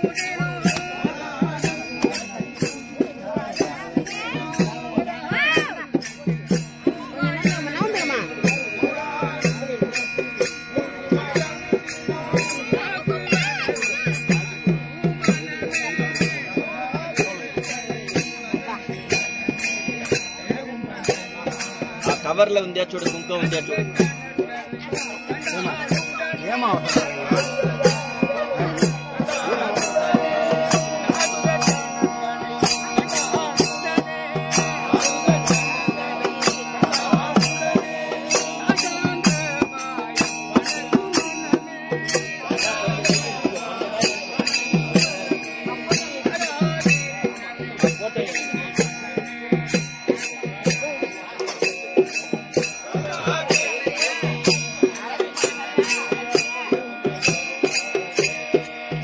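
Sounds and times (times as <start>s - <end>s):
harmonium: 0.0s - 59.0s
jingling percussion beat: 0.0s - 59.0s
voices singing: 0.0s - 59.0s.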